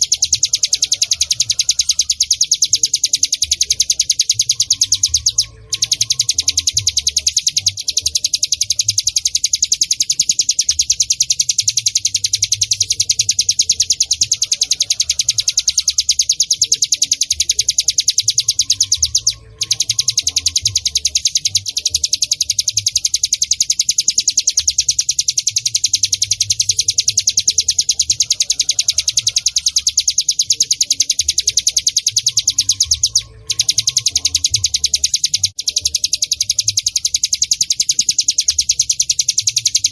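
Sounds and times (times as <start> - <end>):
bird singing rapid chipping notes: 0.0 - 39.9.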